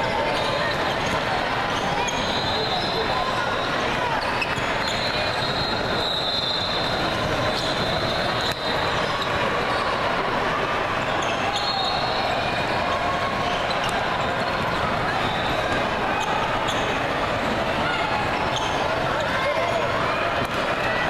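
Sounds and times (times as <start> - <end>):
sneakers squeaking: 0.1 - 10.2, 10.9 - 20.8.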